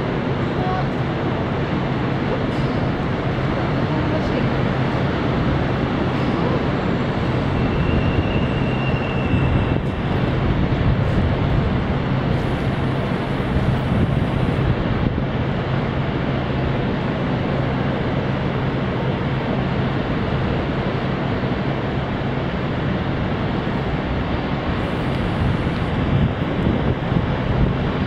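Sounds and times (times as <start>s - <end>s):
city street noise with low hum: 0.0s - 28.0s
wind on microphone: 0.0s - 28.0s.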